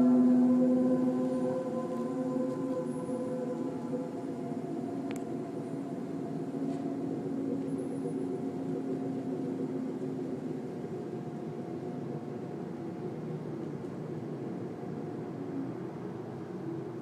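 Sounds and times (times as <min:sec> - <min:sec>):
low droning hum in sky: 0:00.0 - 0:17.0.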